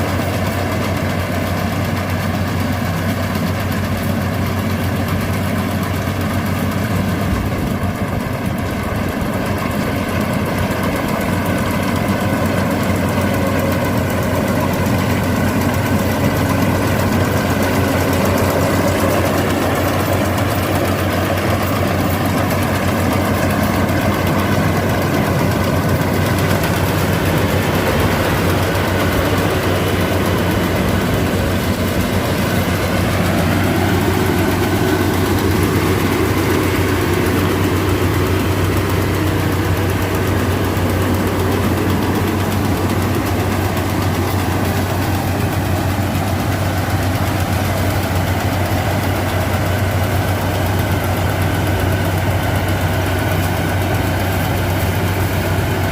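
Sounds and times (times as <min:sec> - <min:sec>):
diesel engine humming: 0:00.0 - 0:55.9
harvester machinery noise: 0:00.0 - 0:55.9.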